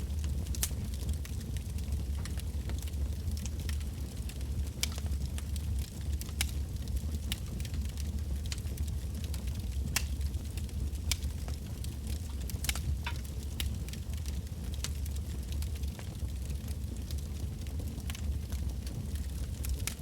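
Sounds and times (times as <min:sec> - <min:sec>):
campfire crackling and popping: 0:00.0 - 0:20.0
fire low rumble: 0:00.0 - 0:20.0.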